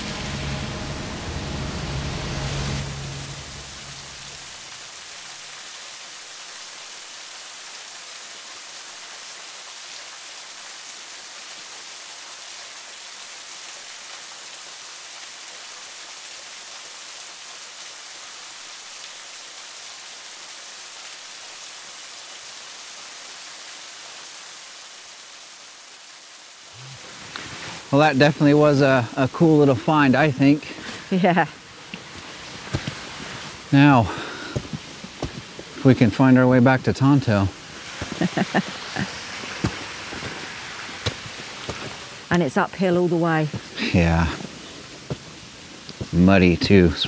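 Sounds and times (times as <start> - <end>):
waterfall splashing: 0.0 - 47.0.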